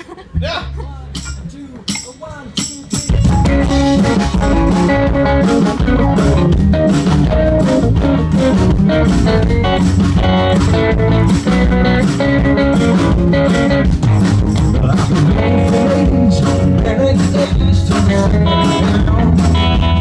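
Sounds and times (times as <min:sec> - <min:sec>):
bass guitar: 0:00.1 - 0:20.0
drum kit beat: 0:00.8 - 0:20.0
electric guitar: 0:02.6 - 0:20.0.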